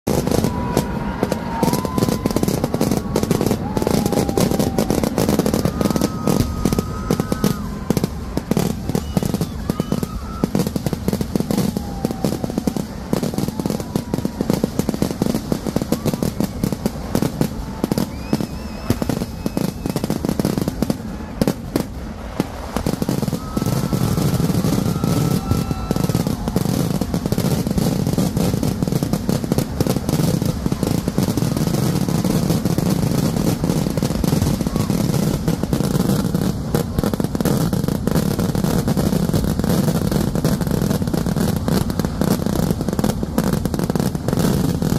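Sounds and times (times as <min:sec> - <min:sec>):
firecrackers and aerial shells exploding: 0:00.0 - 0:44.9.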